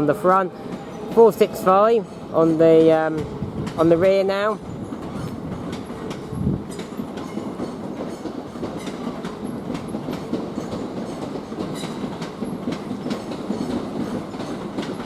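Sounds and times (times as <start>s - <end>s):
train rumble: 0.0s - 15.0s
train wheels clattering over joints: 0.0s - 15.0s.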